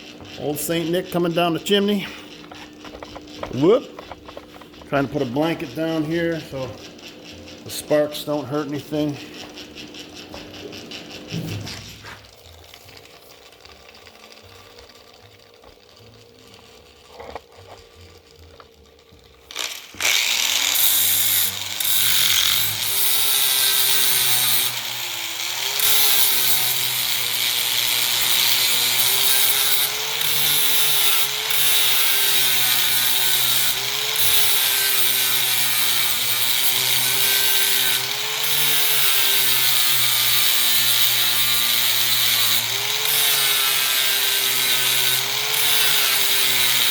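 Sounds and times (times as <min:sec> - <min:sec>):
electric grinder grinding steel: 0:00.0 - 0:46.9.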